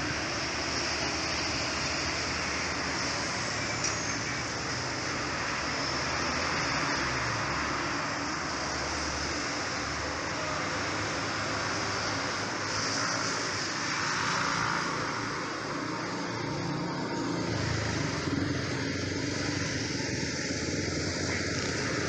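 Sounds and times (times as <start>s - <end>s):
distant engine noise: 0.0s - 22.0s.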